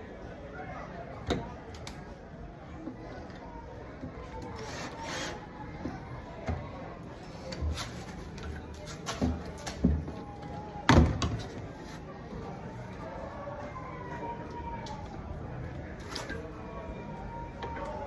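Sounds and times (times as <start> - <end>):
faint background voices: 0.0 - 18.0.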